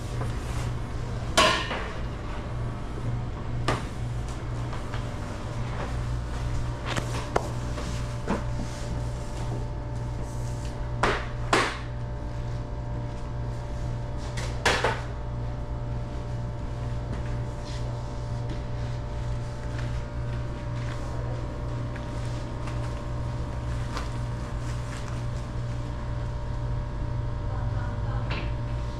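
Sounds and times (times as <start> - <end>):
low machine hum: 0.0 - 28.9.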